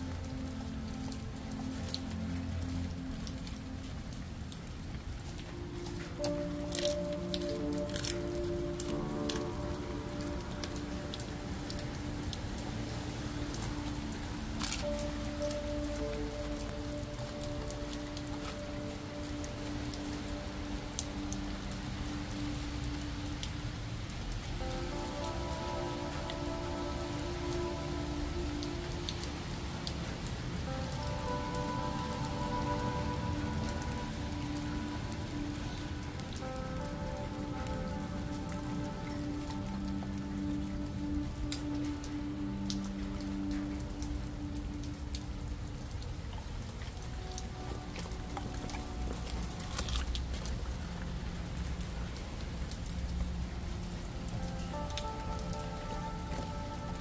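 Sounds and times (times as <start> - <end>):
rain on paving: 0.0 - 57.0.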